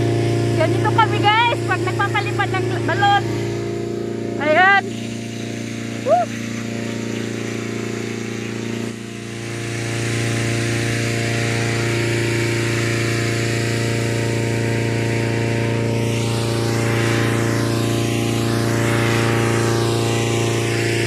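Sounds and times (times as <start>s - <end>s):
engine-driven fan droning: 0.0s - 21.0s.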